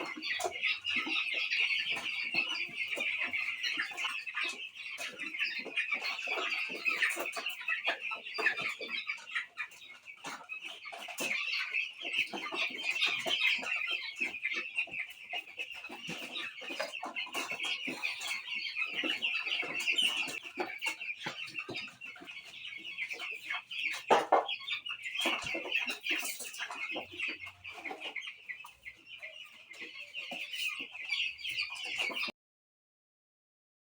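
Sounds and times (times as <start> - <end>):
chicks peeping: 0.0 - 32.3.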